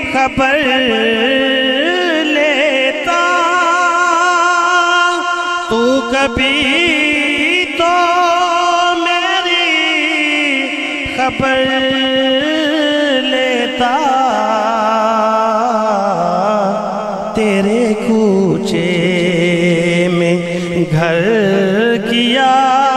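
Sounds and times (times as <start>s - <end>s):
man singing through microphone: 0.0s - 22.9s.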